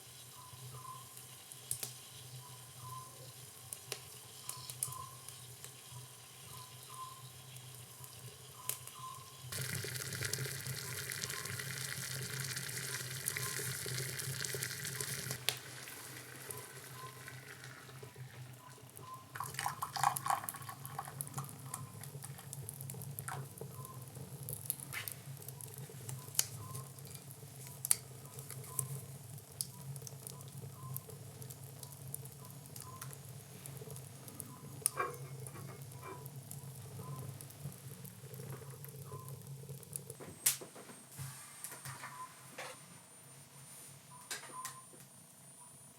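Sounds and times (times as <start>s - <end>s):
food sizzling in a frying pan: 0.0s - 40.2s.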